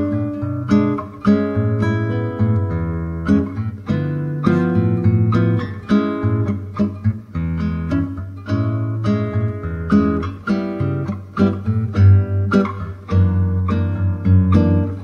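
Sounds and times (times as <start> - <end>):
acoustic guitar music with bass: 0.0 - 15.0.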